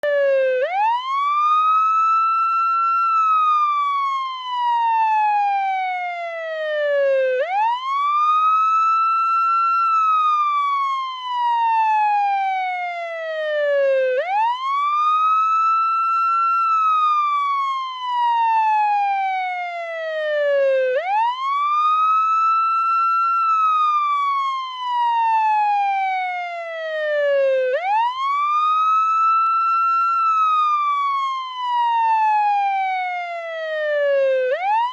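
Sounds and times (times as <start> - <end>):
ambulance siren wailing: 0.0 - 34.9.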